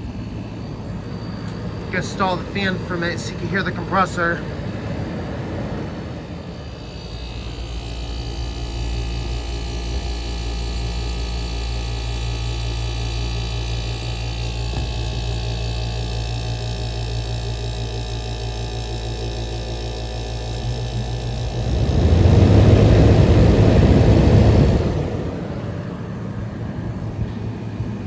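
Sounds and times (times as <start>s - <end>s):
air conditioner compressor humming: 0.0s - 28.0s.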